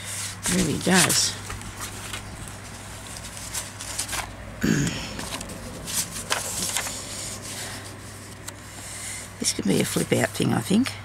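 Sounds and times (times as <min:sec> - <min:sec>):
paper rustling: 0:00.0 - 0:09.3
steady low hum: 0:00.0 - 0:11.0.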